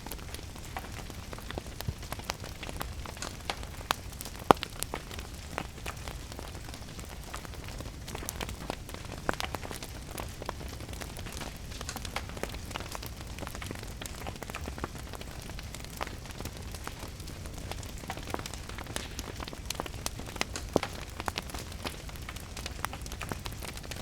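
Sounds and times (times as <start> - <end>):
fire crackling and popping: 0.0 - 24.0
steady rain: 0.0 - 24.0.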